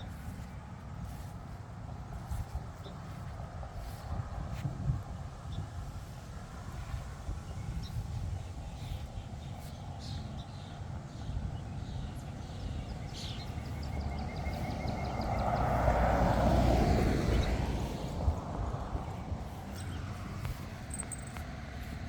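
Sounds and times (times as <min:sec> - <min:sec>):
road vehicle passing by: 0:00.0 - 0:22.0.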